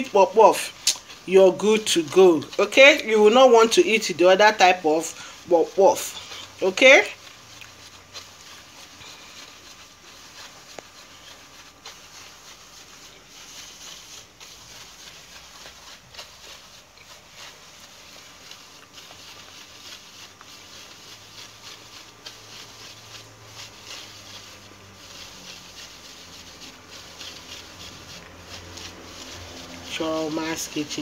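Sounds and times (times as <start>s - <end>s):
flour rustling through a sieve: 0.0s - 31.0s.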